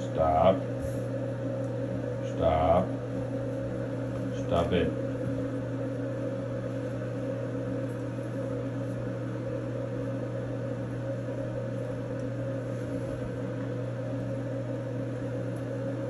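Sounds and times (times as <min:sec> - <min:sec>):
bathroom exhaust fan humming: 0:00.0 - 0:16.0.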